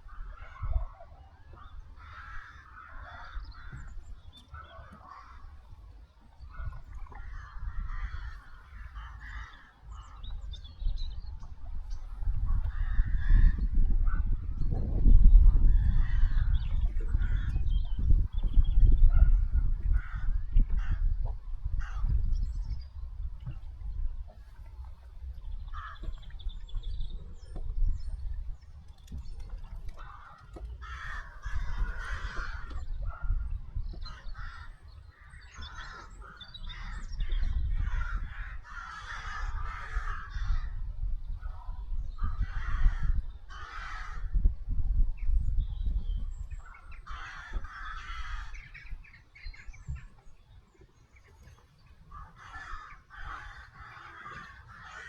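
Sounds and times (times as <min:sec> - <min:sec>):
birds calling: 0:01.5 - 0:44.4, 0:45.4 - 0:55.0.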